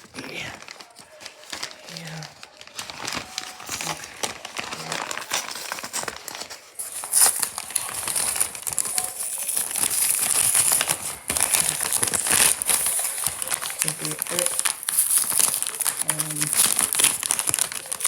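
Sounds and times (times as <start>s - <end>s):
packaging crinkling and tearing: 0.0s - 18.0s.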